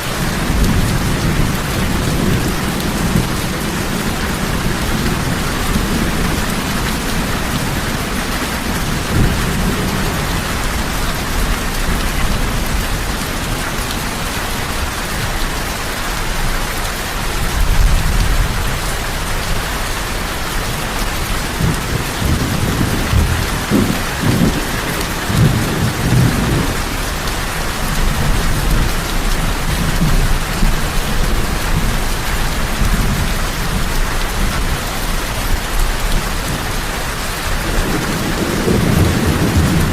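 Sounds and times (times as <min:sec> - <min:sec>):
heavy rain falling: 0:00.0 - 0:39.9
thunder rumbling: 0:00.2 - 0:13.6, 0:17.5 - 0:39.9.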